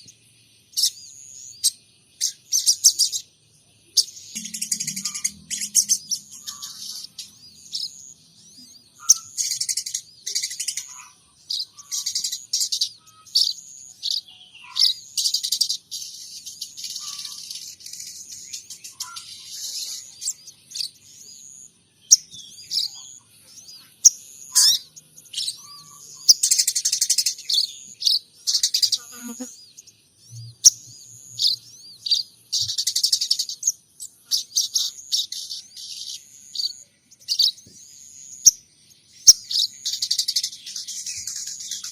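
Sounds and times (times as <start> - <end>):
songbird chirping and trilling: 0.0 - 41.9.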